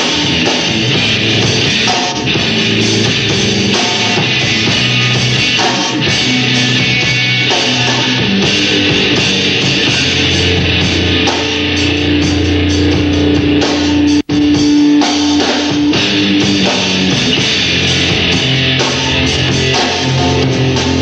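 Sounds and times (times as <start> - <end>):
drum kit: 0.0 - 21.0
electric guitar strumming: 0.0 - 21.0.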